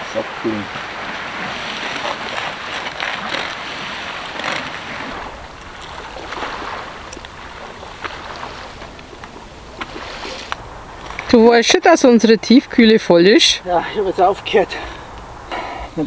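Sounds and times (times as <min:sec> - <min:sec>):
small waves lapping on shore: 0:00.0 - 0:16.0
wind: 0:00.0 - 0:16.0.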